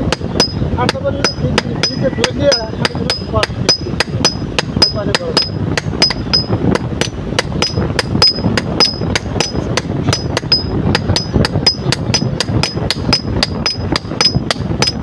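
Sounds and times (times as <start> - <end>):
hammer striking metal on anvil: 0.1 - 15.0.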